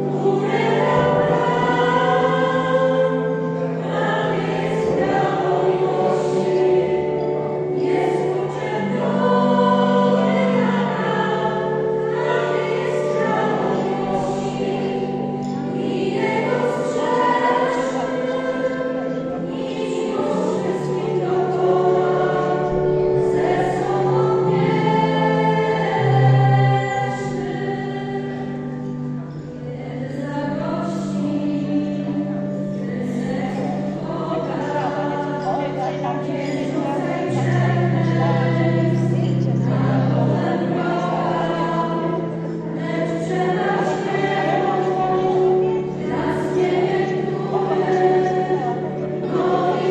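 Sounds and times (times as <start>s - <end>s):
choir singing in harmony: 0.0s - 49.9s.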